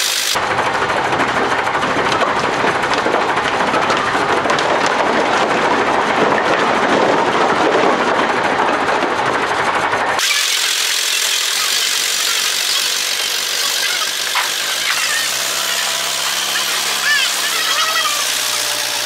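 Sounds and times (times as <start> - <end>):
heavy diesel engine clattering: 0.0 - 19.0.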